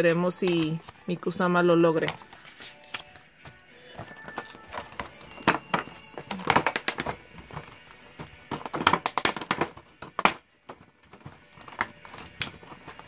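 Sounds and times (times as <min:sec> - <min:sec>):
faint background music: 0:00.0 - 0:13.0
plastic packaging crinkling: 0:01.9 - 0:13.0.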